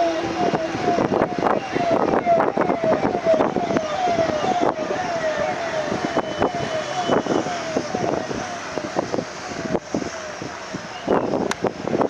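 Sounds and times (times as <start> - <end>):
siren short falling tone: 0.0 - 9.8.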